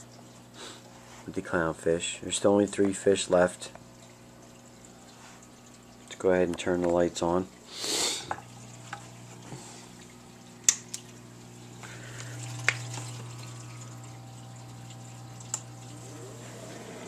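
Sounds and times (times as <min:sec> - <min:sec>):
aquarium equipment hum: 0:00.0 - 0:17.0
water trickling: 0:00.0 - 0:17.0.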